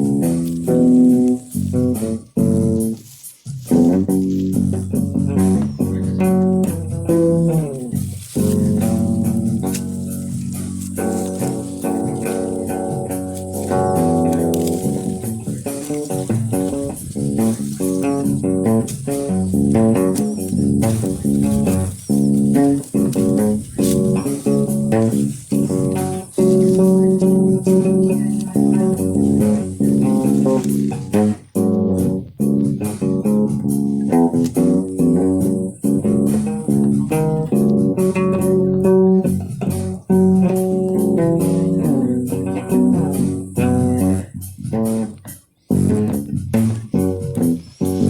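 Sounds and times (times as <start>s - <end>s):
low bass line: 0.0s - 48.0s
plucked guitar music: 0.0s - 48.0s.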